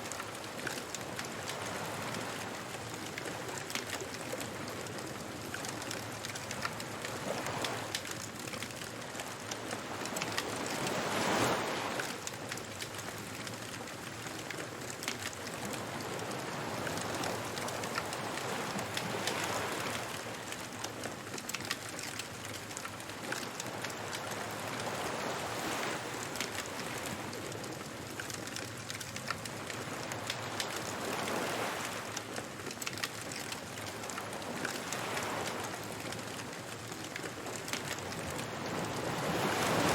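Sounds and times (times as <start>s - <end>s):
bonfire crackling and popping: 0.0s - 24.2s, 24.9s - 39.8s
waves washing onto beach: 0.0s - 39.9s.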